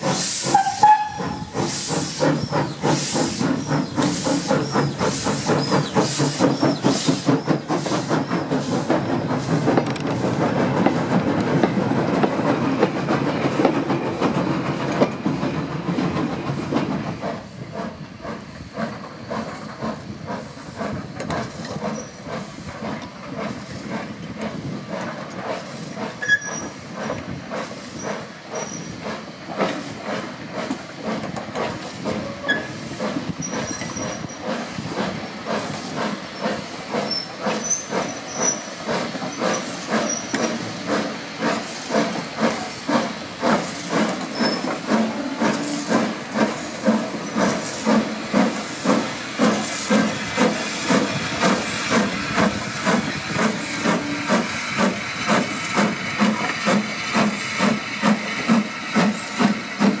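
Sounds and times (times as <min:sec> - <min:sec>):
steam hissing: 0:00.0 - 1:00.0
steam locomotive chuffing: 0:00.0 - 1:00.0.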